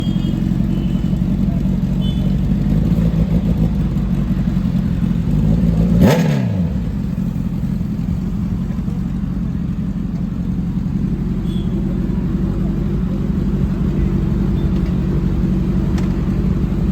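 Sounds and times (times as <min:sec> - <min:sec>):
low rumble of engines: 0:00.0 - 0:16.9.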